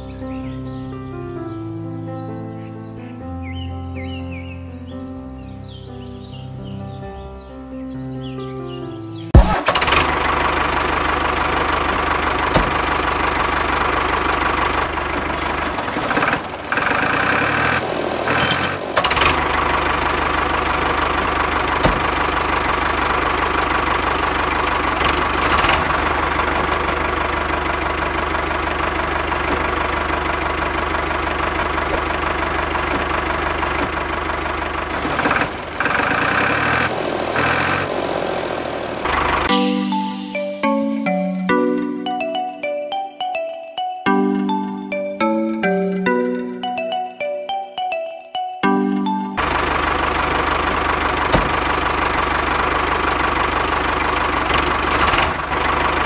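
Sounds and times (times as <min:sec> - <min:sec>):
tractor engine running: 0:09.3 - 0:48.0, 0:48.6 - 0:56.0.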